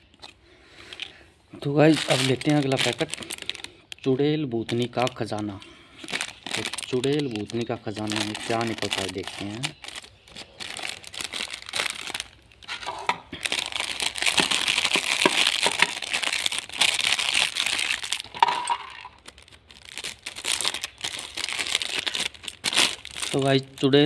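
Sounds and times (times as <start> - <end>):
foil packet crinkling: 0.0 - 24.0.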